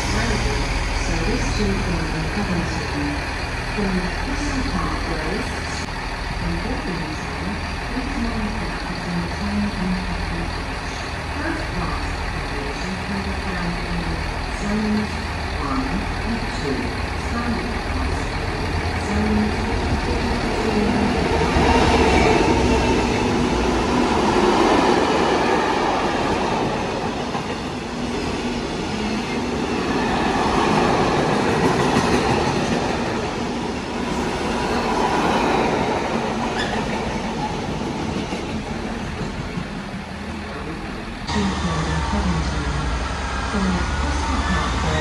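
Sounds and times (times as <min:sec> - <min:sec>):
train wheels rolling on rails: 0:00.0 - 0:45.0.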